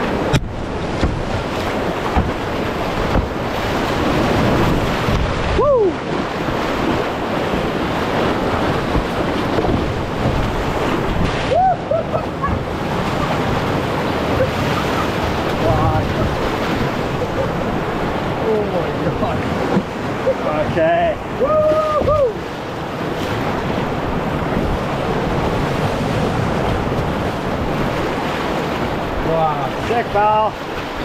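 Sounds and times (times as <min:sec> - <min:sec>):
whitewater rushing in a river rapid: 0:00.0 - 0:31.0
wind buffeting microphone: 0:00.0 - 0:31.0.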